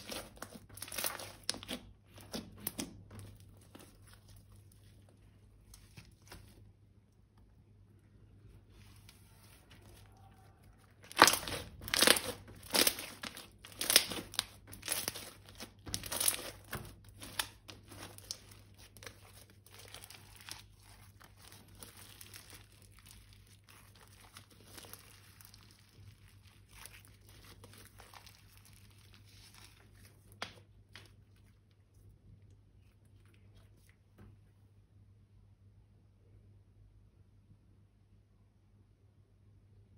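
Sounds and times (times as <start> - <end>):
crinkling handling sounds: 0.0 - 34.6.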